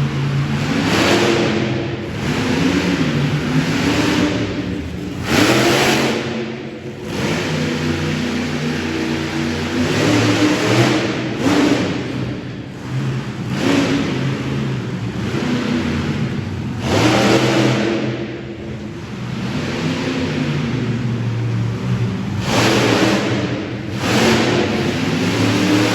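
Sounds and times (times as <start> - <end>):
truck engine revving hard: 0.0 - 25.9.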